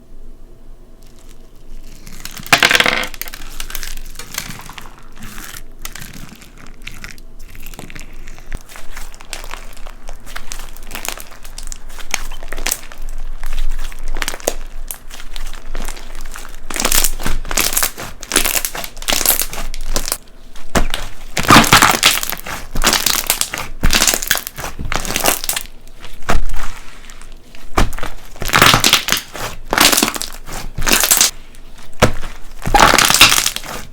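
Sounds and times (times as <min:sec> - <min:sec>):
slime crunching and crackling: 0:01.0 - 0:33.9.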